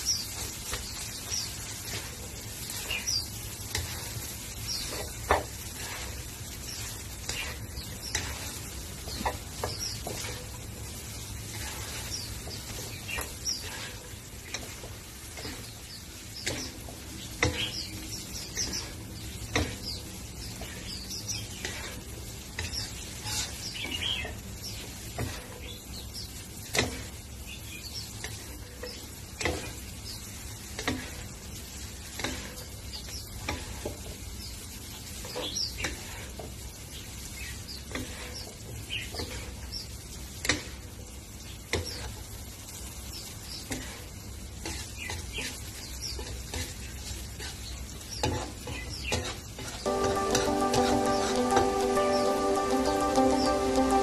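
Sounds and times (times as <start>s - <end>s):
frying sizzle: 0.0s - 54.0s
spatula clacking and scraping wok: 0.1s - 27.4s, 28.0s - 54.0s.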